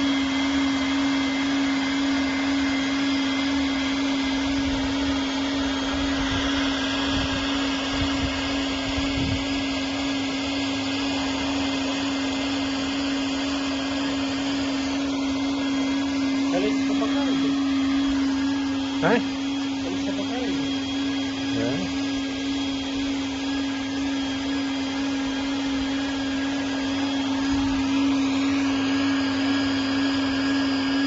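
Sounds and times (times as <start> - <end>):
steady hum: 0.0 - 31.0
welding machine whirring: 0.0 - 31.0.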